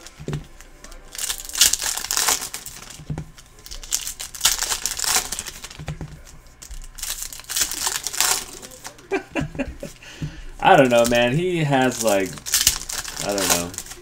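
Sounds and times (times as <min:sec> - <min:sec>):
foil wrappers tearing and crinkling: 0:00.0 - 0:14.0.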